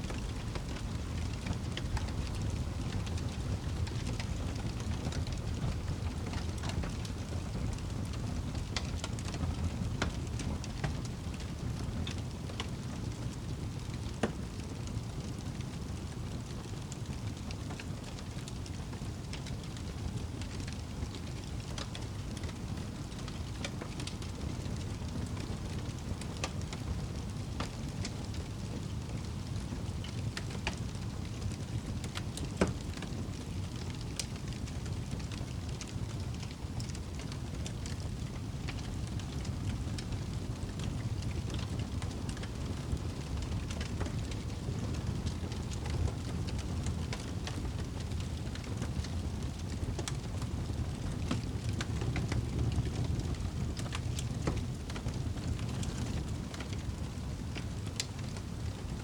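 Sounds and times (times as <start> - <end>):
campfire crackles and pops: 0.1 - 59.0.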